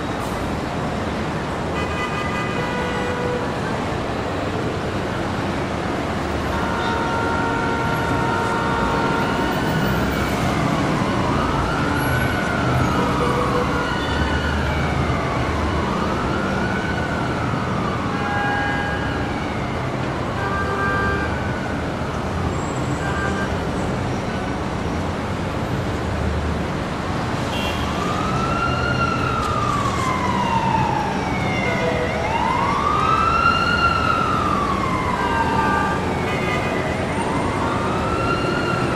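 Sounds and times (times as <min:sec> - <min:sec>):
city traffic rumbling: 0:00.0 - 0:38.9
emergency siren wailing: 0:02.5 - 0:23.7, 0:27.5 - 0:38.9.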